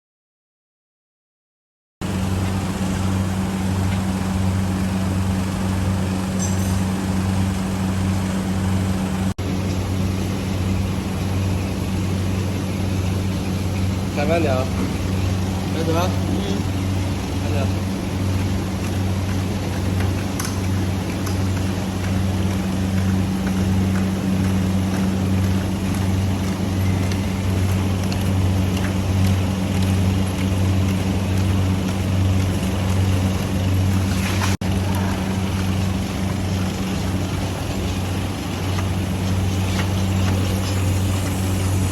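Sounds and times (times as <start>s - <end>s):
machine humming: 2.0s - 41.9s.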